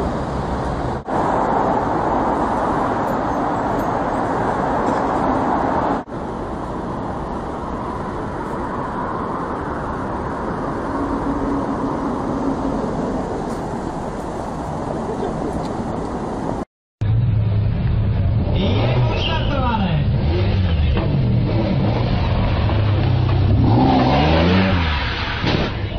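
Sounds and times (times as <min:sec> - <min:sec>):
city street traffic: 0:00.0 - 0:25.9.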